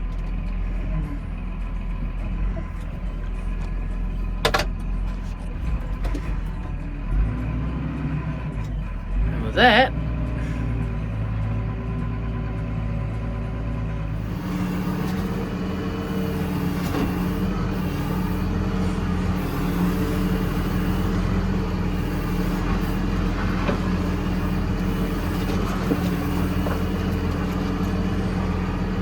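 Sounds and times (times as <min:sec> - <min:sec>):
tractor diesel engine drone: 0:00.0 - 0:29.0.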